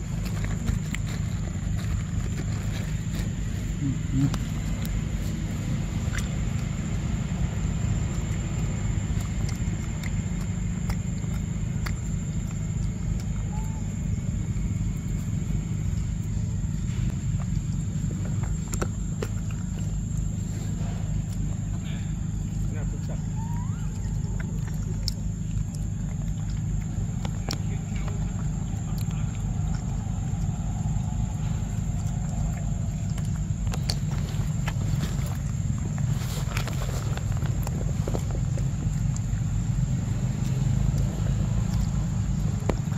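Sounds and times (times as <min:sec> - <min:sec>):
monkey chewing clicks: 0:00.0 - 0:42.9.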